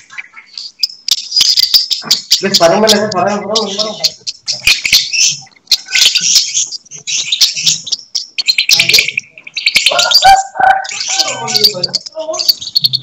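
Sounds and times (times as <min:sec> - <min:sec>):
lovebird chattering song: 0:00.0 - 0:13.0.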